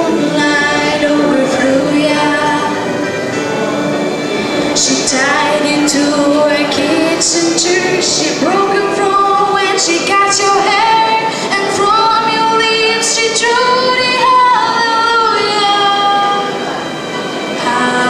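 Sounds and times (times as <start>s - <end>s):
girl singing into a microphone: 0.0s - 2.9s, 4.8s - 16.6s, 17.6s - 18.0s.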